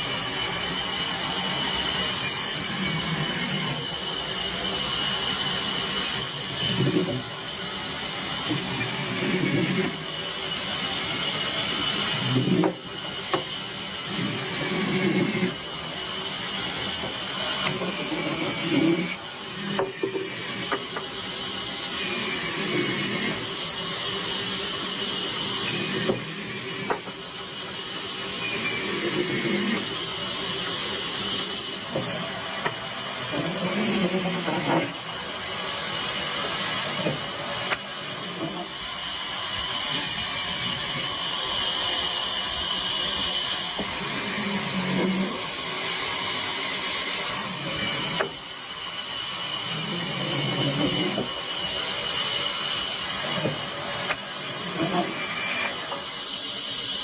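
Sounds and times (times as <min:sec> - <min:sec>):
tool rasping wood: 0:00.0 - 0:57.0.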